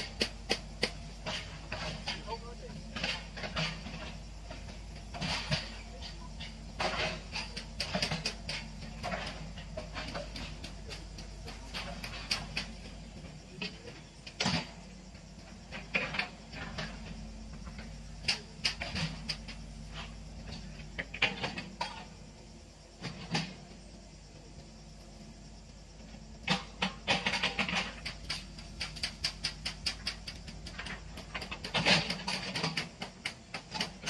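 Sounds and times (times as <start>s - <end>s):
sharp cracks and knocks: 0.0s - 14.9s, 15.7s - 22.2s, 26.4s - 34.0s
excavator diesel engine running: 0.0s - 34.0s.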